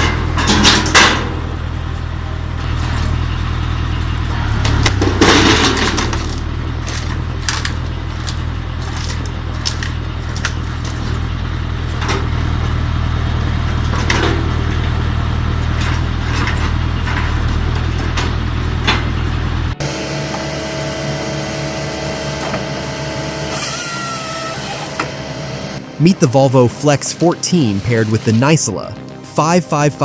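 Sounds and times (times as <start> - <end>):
log splitter engine running: 0.0 - 29.4.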